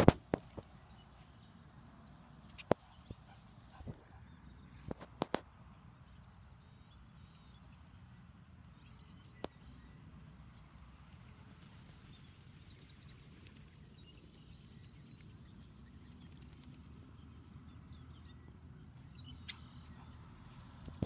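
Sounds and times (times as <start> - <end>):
distant bird chirps: 0.4 - 21.0.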